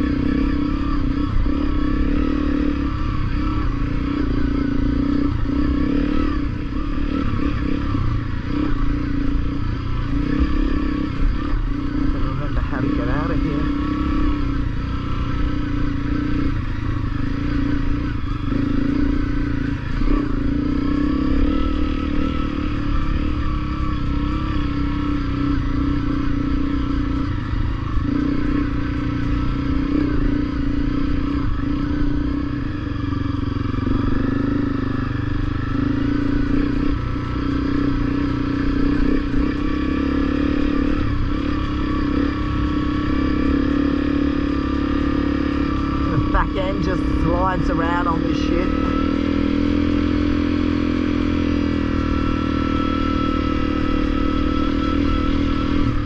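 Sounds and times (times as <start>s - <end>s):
motorcycle engine running under load: 0.0s - 56.0s.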